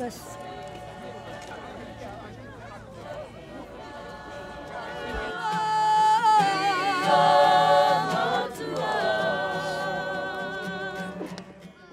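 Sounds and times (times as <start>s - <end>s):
voices singing a cappella: 0.0s - 11.8s.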